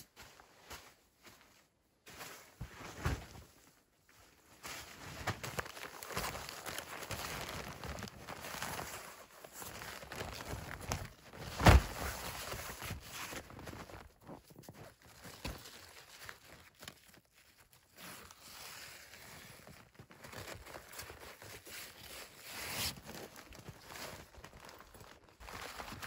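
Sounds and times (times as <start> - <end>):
tent fabric rustling: 0.0 - 26.0.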